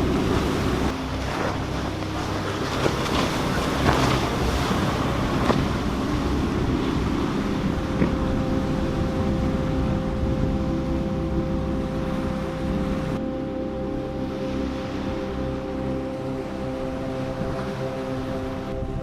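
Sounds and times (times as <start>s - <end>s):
boat engines running: 0.0s - 19.0s
steady droning hum: 0.0s - 19.0s
waves rushing: 0.0s - 19.0s
wind buffeting microphone: 0.0s - 19.0s.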